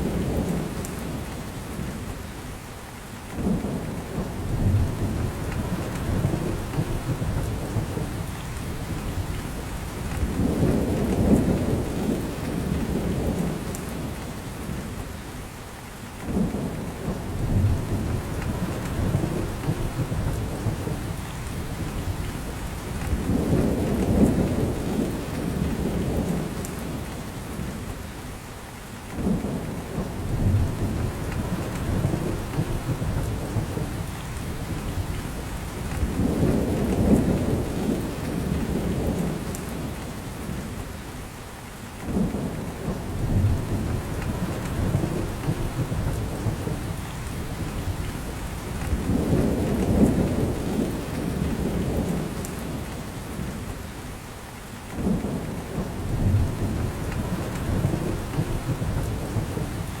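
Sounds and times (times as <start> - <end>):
rain dripping from branches: 0.0 - 60.0.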